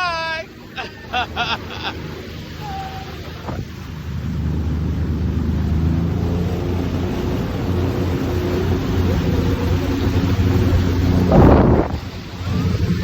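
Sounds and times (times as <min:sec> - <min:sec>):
jet ski engine: 0:00.0 - 0:13.0
water and wind noise: 0:00.0 - 0:13.0.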